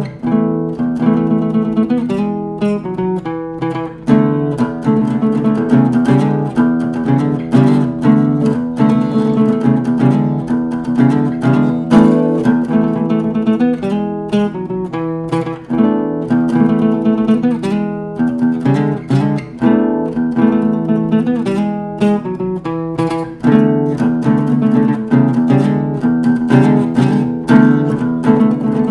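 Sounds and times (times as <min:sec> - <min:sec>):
acoustic guitar plucked: 0:00.0 - 0:28.9.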